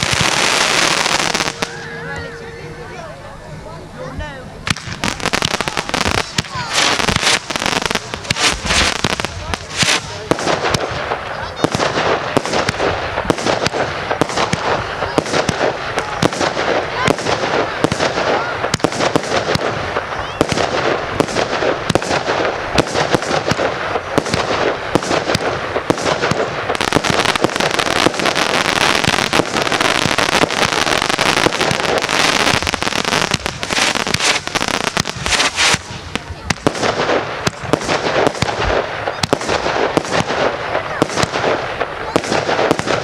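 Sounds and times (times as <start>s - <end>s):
fireworks banging and popping: 0.0s - 2.3s, 4.1s - 43.0s
fireworks crackling: 0.0s - 43.0s.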